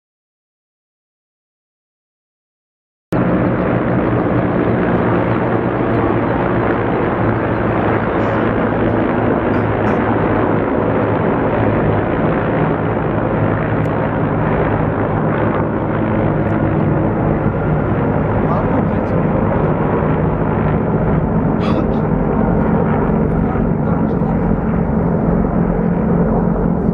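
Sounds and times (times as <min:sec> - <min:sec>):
helicopters droning: 0:03.2 - 0:26.9.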